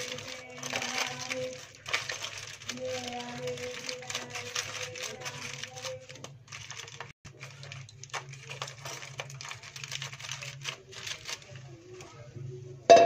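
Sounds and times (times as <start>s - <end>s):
aluminium foil crinkling: 0.0s - 12.5s.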